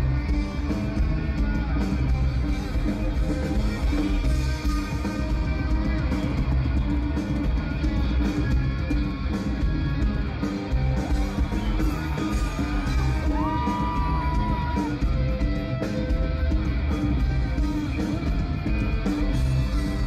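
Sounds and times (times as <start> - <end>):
bass guitar: 0.0 - 20.0
electric guitar: 0.0 - 20.0
steady drum beat: 0.0 - 20.0.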